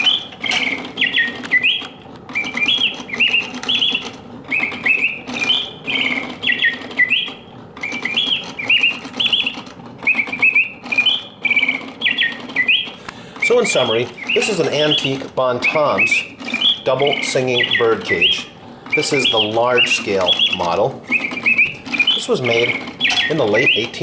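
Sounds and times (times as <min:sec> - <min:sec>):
mechanical bird whistle song: 0:00.0 - 0:24.0.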